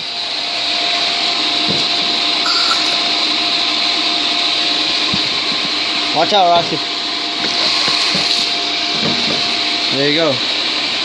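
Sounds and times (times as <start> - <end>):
pool pump running: 0.0 - 11.0.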